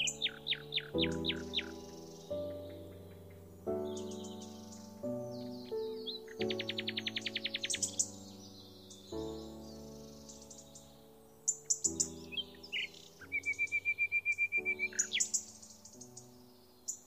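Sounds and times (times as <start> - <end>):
background music of held chords: 0.0 - 17.0
birds chirping: 0.0 - 17.0.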